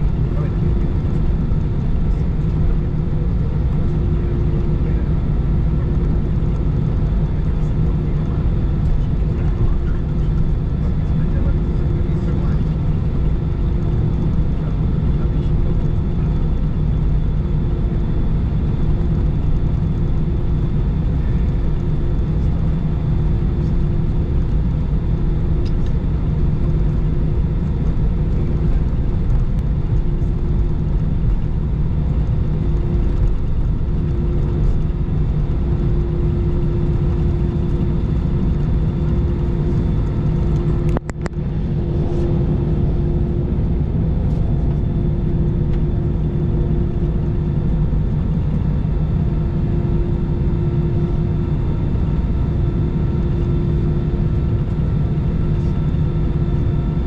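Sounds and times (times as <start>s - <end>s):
low rumble of engines and wheels: 0.0s - 57.0s
steady hum: 0.0s - 57.0s.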